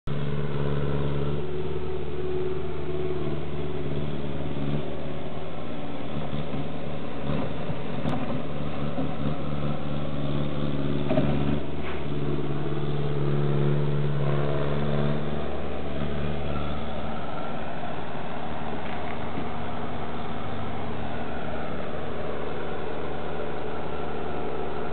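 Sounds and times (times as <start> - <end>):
motor humming steadily: 0.1 - 24.9.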